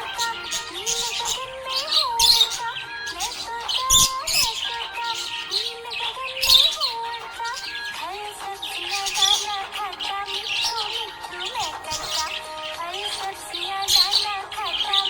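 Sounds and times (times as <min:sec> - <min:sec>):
budgerigar chirping and twittering: 0:00.0 - 0:15.0.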